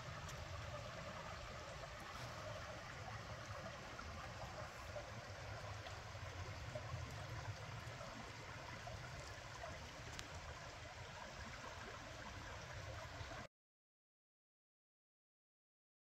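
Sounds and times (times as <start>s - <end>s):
creek flowing over rocks: 0.0s - 13.5s.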